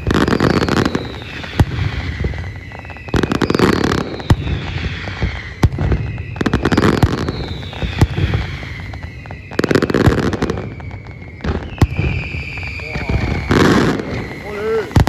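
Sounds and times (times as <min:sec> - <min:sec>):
falling firework whistles: 0:00.0 - 0:15.0
firework shells bursting: 0:00.0 - 0:15.0
rapid firework crackling: 0:00.0 - 0:15.0.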